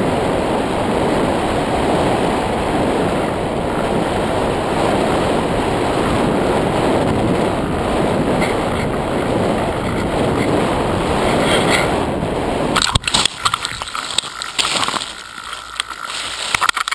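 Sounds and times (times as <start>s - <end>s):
wind rushing on microphone: 0.0s - 16.9s.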